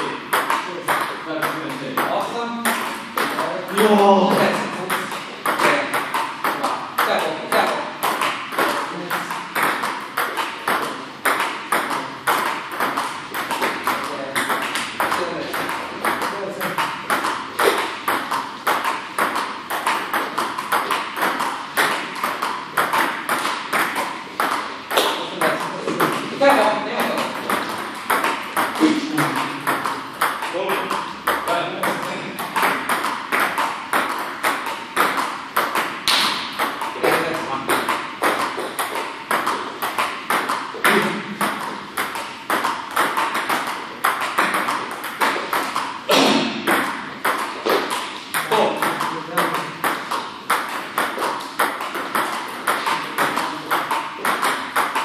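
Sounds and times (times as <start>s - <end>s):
table tennis ball clicking: 0.3s - 26.3s, 27.0s - 46.0s, 46.6s - 55.0s.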